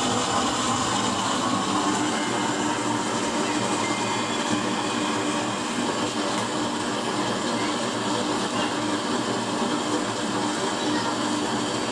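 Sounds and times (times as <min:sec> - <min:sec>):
motor-like hum: 0:00.0 - 0:11.9.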